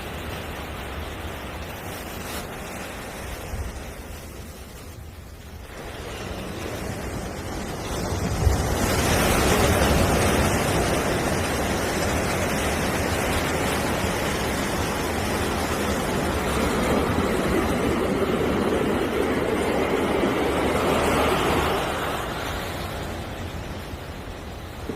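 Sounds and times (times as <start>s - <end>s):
ocean surf washing: 0.0s - 24.9s.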